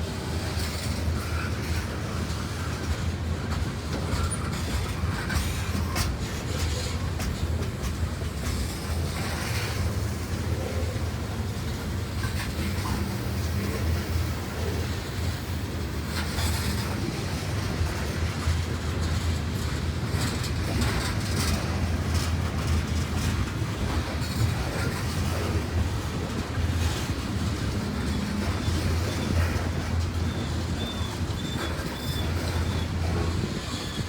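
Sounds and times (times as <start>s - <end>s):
freight train rumbling: 0.0s - 34.0s
wheels clicking and clanking: 0.0s - 34.0s.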